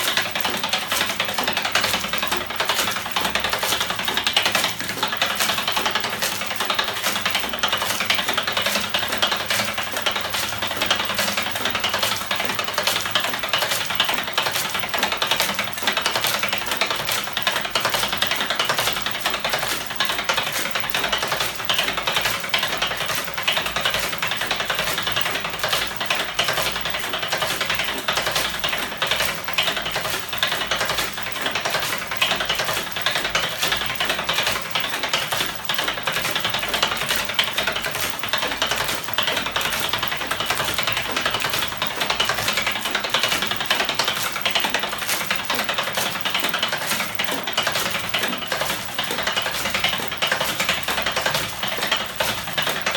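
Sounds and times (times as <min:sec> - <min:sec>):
motor engine clattering clicks: 0:00.0 - 0:52.9.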